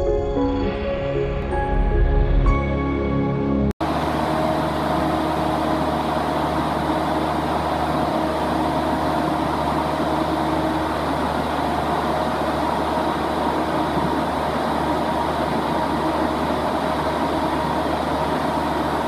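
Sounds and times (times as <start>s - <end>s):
generator engine droning: 0.0s - 19.0s.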